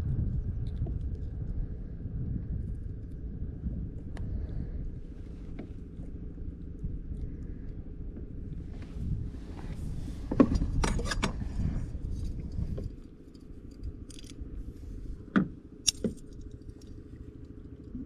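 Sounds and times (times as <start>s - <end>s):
wind buffeting microphone: 0.0s - 17.2s.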